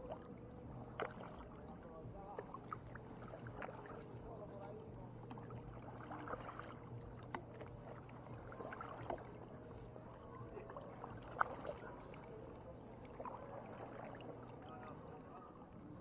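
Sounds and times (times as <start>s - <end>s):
paddle splashing in water: 0.0s - 15.8s
low steady hum: 0.0s - 16.0s.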